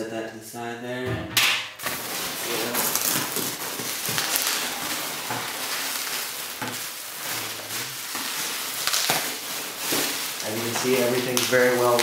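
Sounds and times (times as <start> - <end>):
packing peanuts crackling rustle: 1.8 - 12.0.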